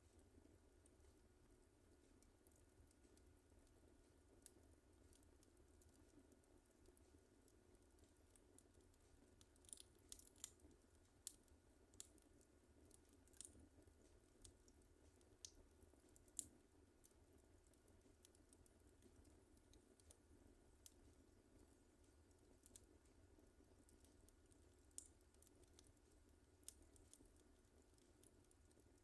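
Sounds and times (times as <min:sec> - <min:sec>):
wood fire crackling and popping: 0:00.1 - 0:29.0.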